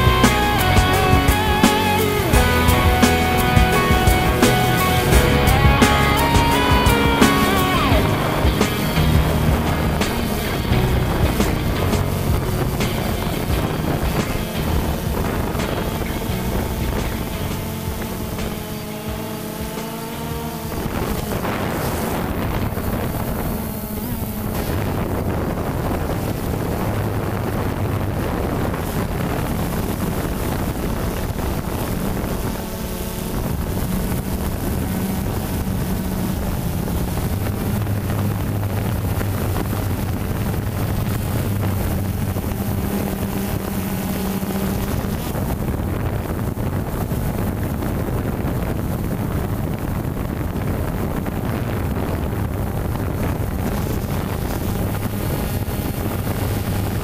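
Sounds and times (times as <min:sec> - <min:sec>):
drone motors humming: 0:00.0 - 0:57.0
wind noise on microphone: 0:00.0 - 0:57.0.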